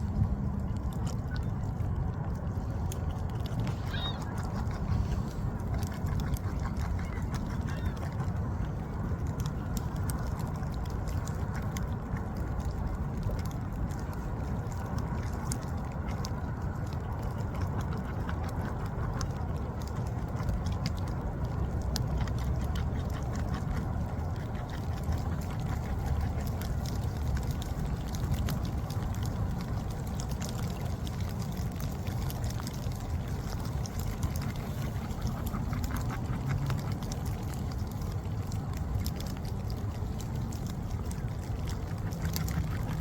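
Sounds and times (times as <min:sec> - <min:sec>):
sharp clicks and crackles: 0:00.0 - 0:43.0
water rushing: 0:00.0 - 0:43.0.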